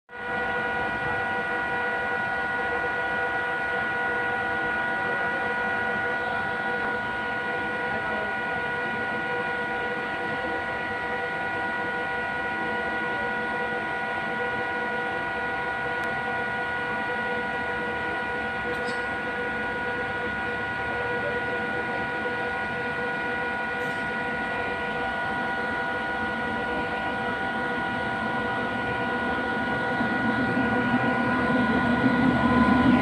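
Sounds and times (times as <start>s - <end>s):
train running noise: 0.1s - 33.0s.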